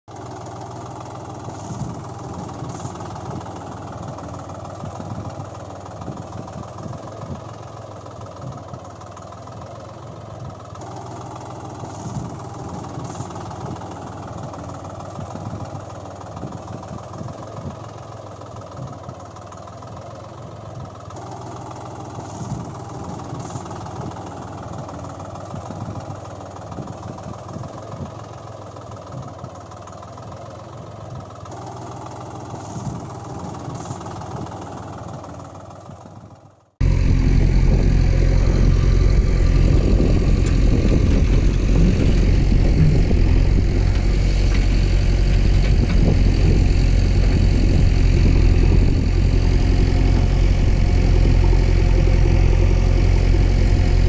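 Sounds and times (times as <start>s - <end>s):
tractor engine knocking: 0.1s - 54.0s.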